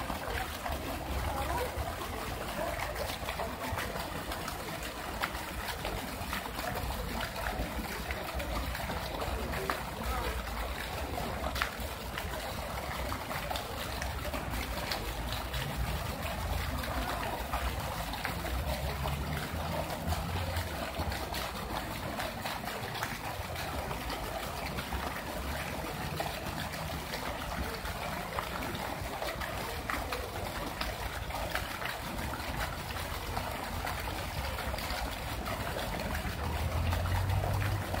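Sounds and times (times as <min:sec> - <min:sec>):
fountain water splashing: 0:00.0 - 0:38.0.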